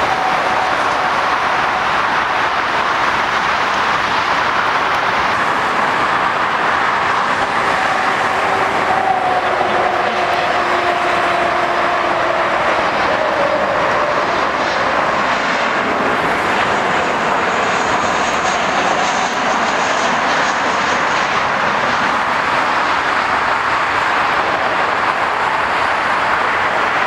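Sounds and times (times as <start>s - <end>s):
jet engines passing: 0.0s - 27.0s.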